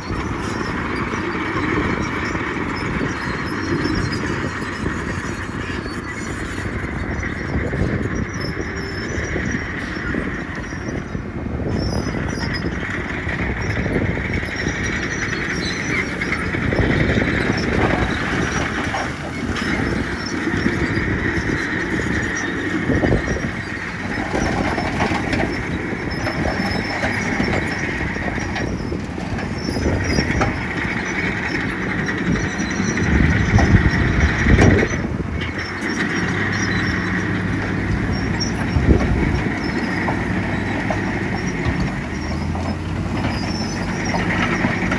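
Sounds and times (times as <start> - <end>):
bulldozer diesel engine running: 0.0 - 44.9
steady high squeal: 0.0 - 44.9.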